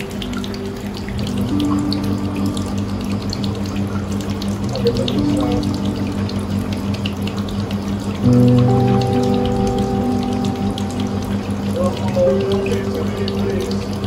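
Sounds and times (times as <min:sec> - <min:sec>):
soft background music: 0:00.0 - 0:14.0
water trickling and dripping: 0:00.0 - 0:14.0.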